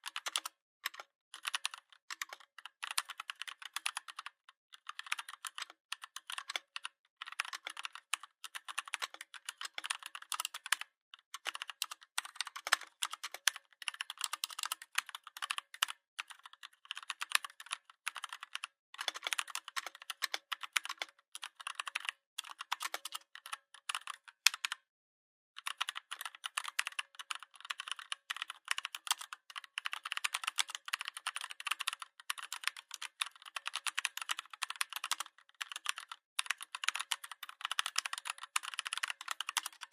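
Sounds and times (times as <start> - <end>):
mechanical keyboard typing: 0.0 - 24.8, 25.6 - 39.9.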